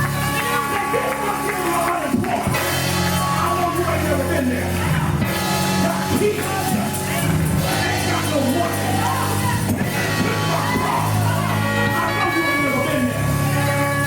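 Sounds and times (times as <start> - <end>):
low held chords: 0.0 - 14.0.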